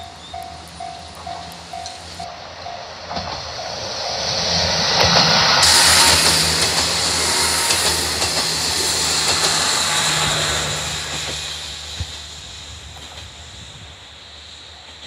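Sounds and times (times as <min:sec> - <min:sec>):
diesel train engine hum: 0:00.0 - 0:15.0
wheels hissing on rails: 0:00.0 - 0:15.0.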